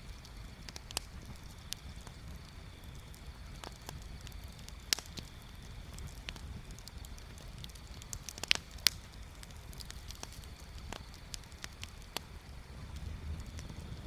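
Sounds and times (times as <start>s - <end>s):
wood bonfire crackling: 0.0s - 14.0s.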